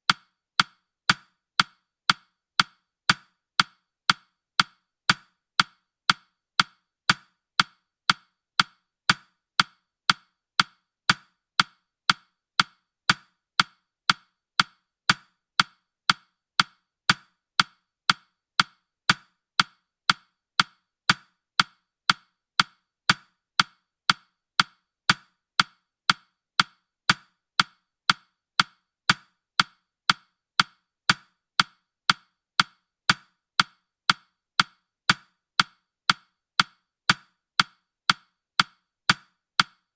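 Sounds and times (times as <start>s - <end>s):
woody clock ticks: 0.0s - 39.9s.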